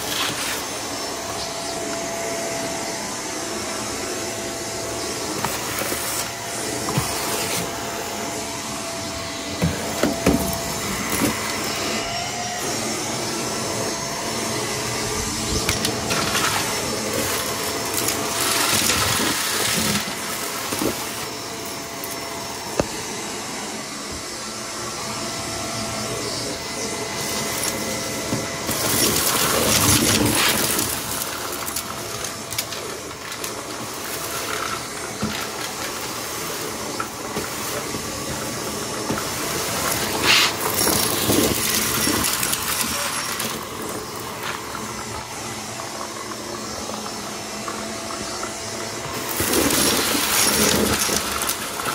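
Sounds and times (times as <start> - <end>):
vacuum cleaner motor whirring: 0.0 - 51.9.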